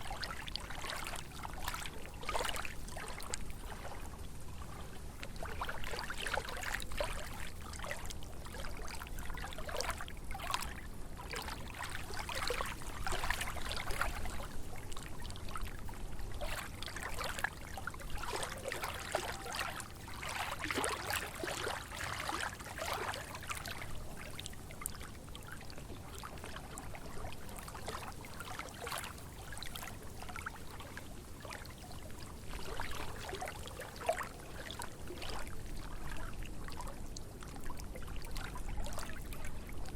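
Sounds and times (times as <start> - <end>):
lake waves lapping and splashing: 0.0 - 39.9
low steady rumble: 0.0 - 39.9.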